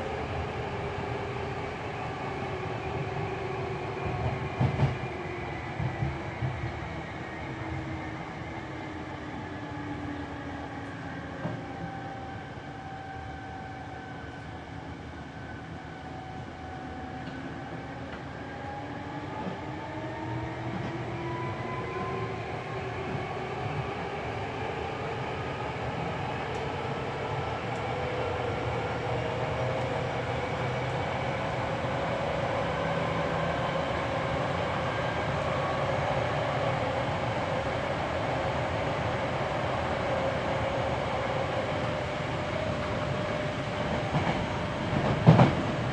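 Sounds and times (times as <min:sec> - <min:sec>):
train wheels rumbling on track: 0:00.0 - 0:45.9.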